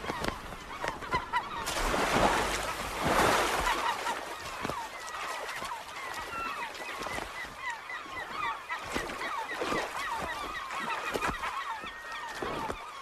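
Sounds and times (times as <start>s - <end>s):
gulls calling: 0.0s - 13.0s
splashes in water: 0.0s - 13.0s.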